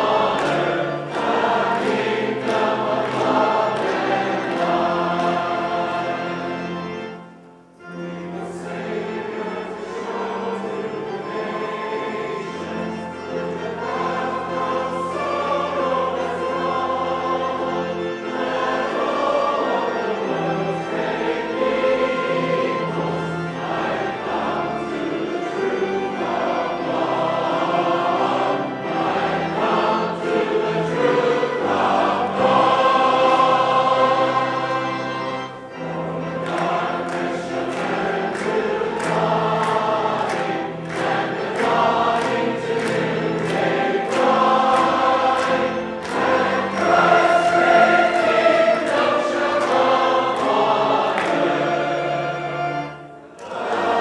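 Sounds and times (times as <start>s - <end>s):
church choir singing: 0.0s - 54.0s.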